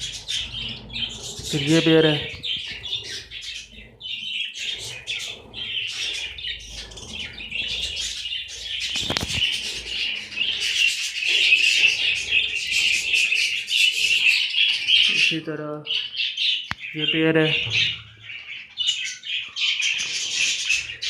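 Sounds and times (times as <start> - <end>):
budgerigars chattering and chirping: 0.0 - 21.0.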